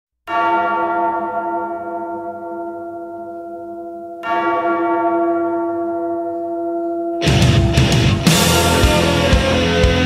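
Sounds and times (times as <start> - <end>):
bell tolling: 0.3 - 9.6.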